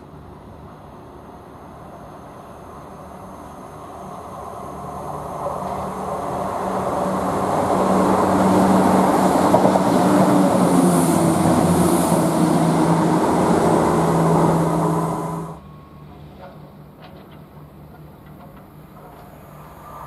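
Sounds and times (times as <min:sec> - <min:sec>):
diesel train engines humming: 0:00.0 - 0:20.0
wheel and rail rumble: 0:00.0 - 0:20.0.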